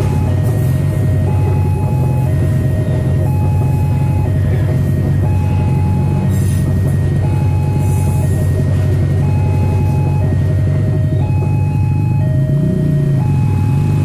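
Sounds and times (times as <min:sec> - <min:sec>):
train coaches rolling past: 0:00.0 - 0:14.0
two-tone crossing warning alarm: 0:00.0 - 0:14.0.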